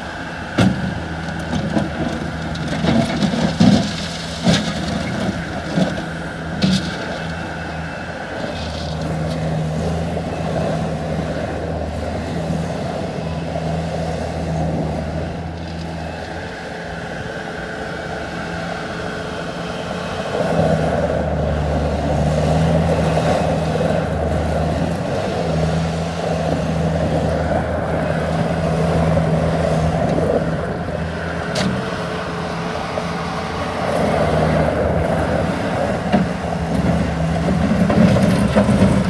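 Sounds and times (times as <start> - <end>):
skid steer engine running: 0.0 - 39.0.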